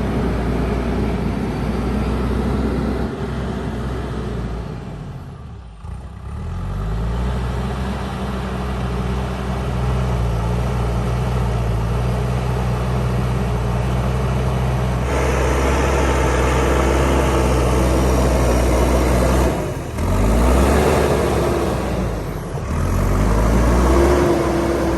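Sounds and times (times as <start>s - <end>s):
diesel engine revving: 0.0s - 24.9s.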